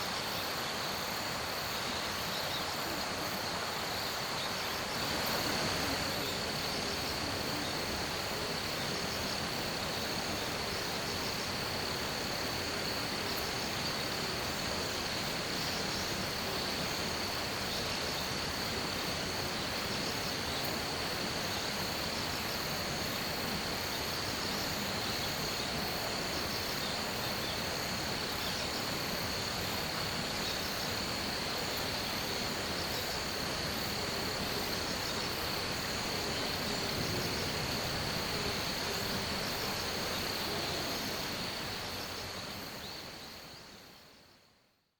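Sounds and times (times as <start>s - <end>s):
even hiss: 0.0s - 44.6s.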